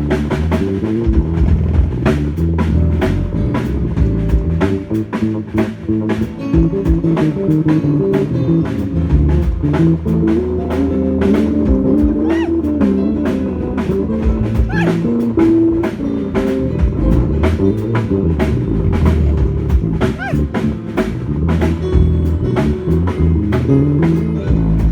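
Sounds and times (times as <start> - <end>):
bass line: 0.0 - 24.9
drum kit beat: 0.0 - 24.9
guitar or keyboard notes: 0.0 - 24.9.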